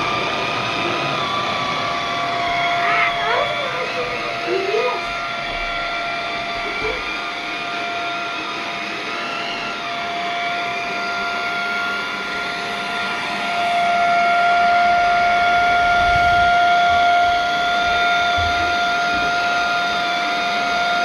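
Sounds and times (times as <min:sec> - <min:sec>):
vacuum cleaner running on carpet: 0:00.0 - 0:21.0.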